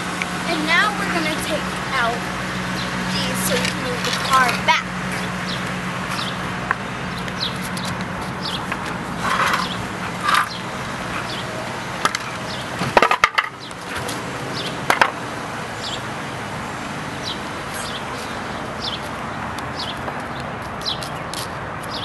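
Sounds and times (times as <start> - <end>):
car engine idling: 0.0 - 20.8.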